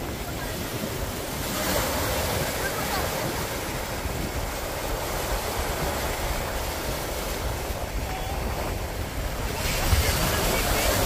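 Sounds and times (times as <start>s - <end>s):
ocean surf on sandy beach: 0.0s - 11.0s
wind rumbling on microphone: 0.0s - 11.0s.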